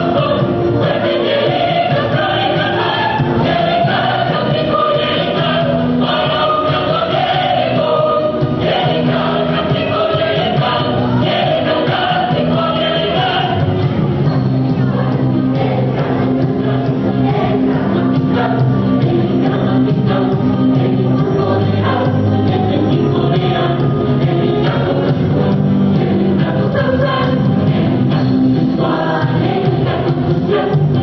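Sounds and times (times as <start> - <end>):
band accompaniment: 0.0 - 31.0
ensemble singing show tune: 0.0 - 31.0.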